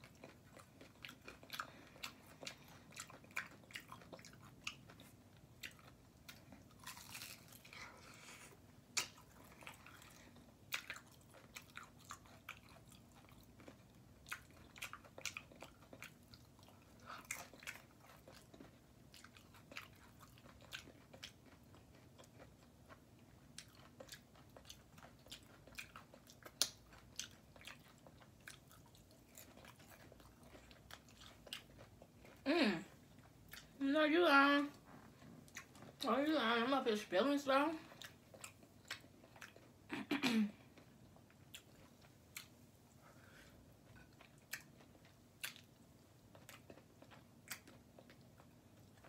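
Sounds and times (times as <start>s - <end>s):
chewing and crunching food: 0.0s - 49.0s.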